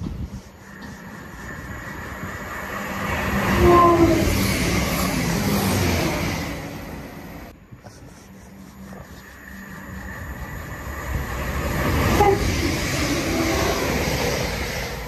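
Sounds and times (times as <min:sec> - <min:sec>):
passenger train passing: 0:00.0 - 0:07.8, 0:08.6 - 0:15.0
steady background noise: 0:00.0 - 0:15.0.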